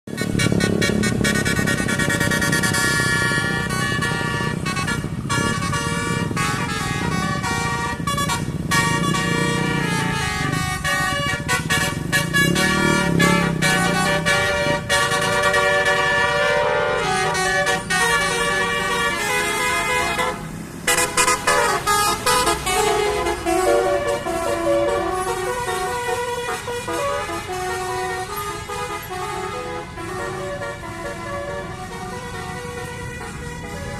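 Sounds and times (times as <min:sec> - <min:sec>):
engine rumbling: 0:00.1 - 0:33.9
multi-tone bus horn melody: 0:00.1 - 0:33.9.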